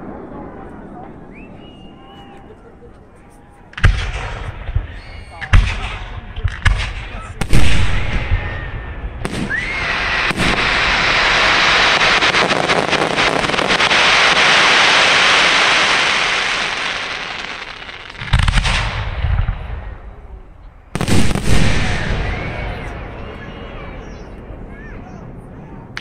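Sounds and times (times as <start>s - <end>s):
heavy firework booms: 3.8s - 24.7s.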